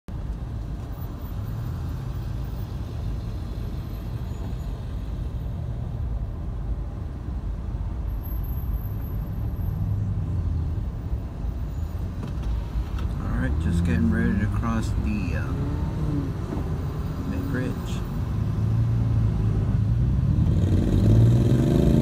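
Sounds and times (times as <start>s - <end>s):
car engine and tyres rumbling: 0.1s - 22.0s.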